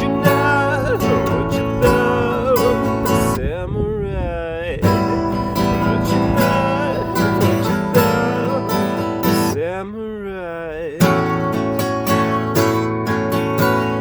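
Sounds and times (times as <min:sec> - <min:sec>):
strummed acoustic guitar: 0:00.0 - 0:03.5, 0:04.8 - 0:14.0
person singing: 0:00.0 - 0:11.8.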